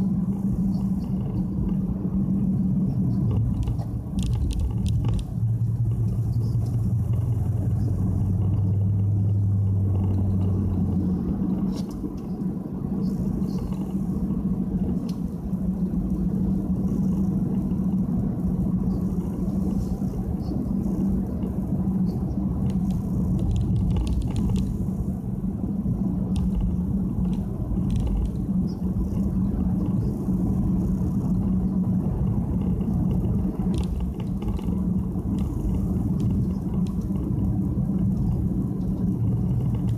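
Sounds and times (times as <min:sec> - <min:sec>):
car engine and road drone: 0:00.0 - 0:39.9
low hum: 0:00.0 - 0:39.9.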